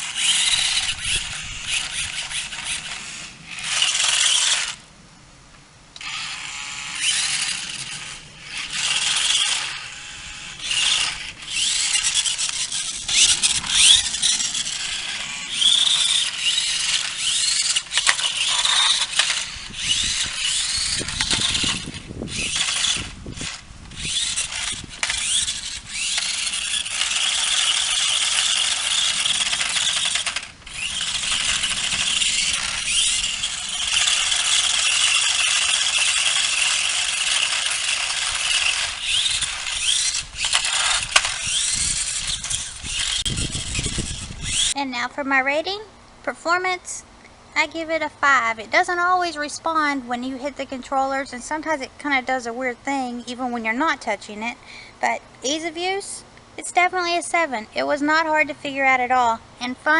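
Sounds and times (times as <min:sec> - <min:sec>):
toy car motors whirring: 0:00.0 - 0:04.8, 0:06.0 - 0:44.8, 0:55.5 - 0:59.9.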